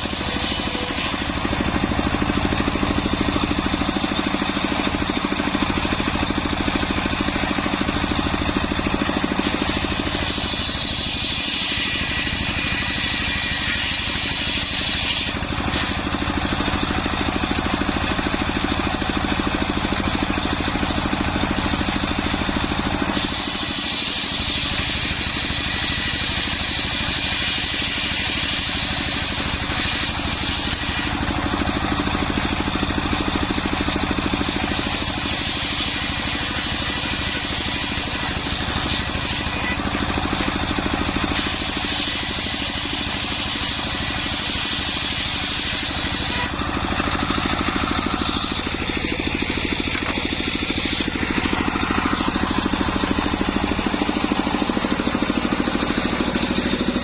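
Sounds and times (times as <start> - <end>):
saw blade cutting wood: 0.0 - 57.0.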